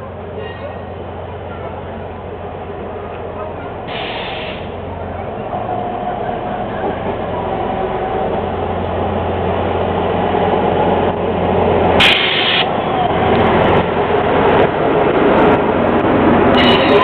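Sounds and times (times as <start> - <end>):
diesel locomotive passing: 0.0 - 17.0.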